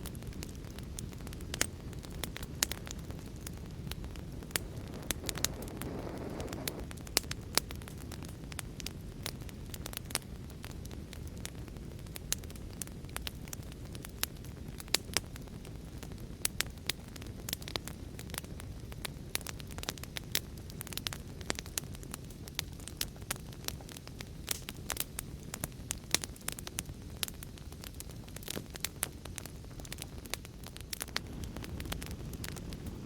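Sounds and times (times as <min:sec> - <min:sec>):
fire crackling: 0:00.0 - 0:33.0.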